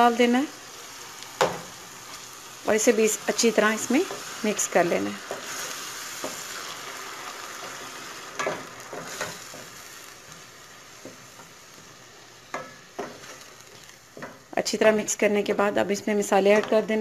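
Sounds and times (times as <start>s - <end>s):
masala sizzling in hot oil: 0.0s - 17.0s.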